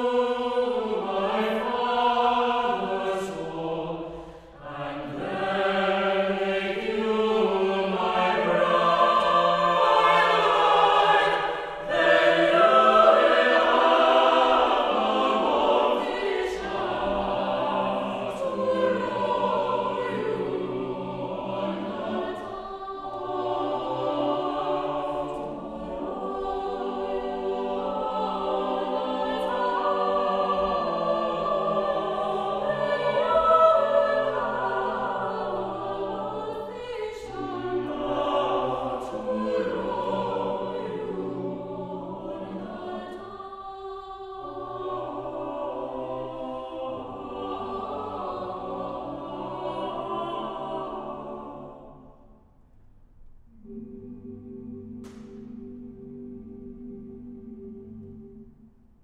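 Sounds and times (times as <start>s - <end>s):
choir singing unaccompanied: 0.0s - 52.4s, 53.5s - 58.7s.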